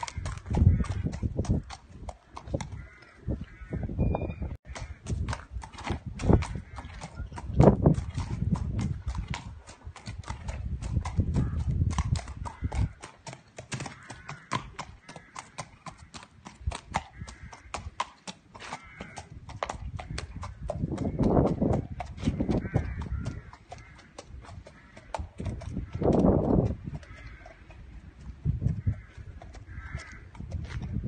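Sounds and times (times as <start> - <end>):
horse hooves on concrete: 0.0 - 31.0.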